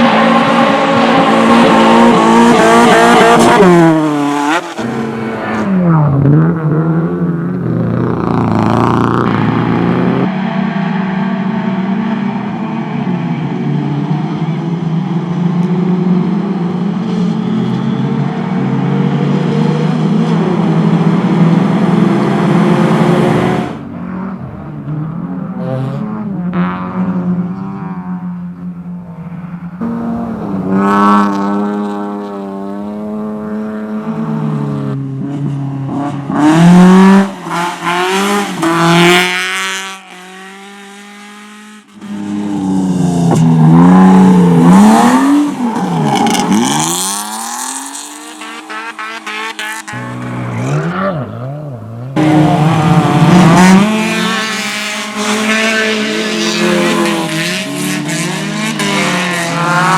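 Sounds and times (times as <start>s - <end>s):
race car engines revving past: 0.0s - 59.9s.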